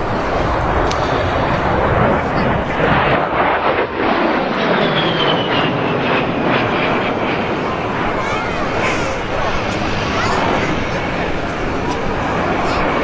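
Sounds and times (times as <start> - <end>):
high whine falling in pitch: 0.0 - 13.0
jet engines at full power: 0.0 - 13.0.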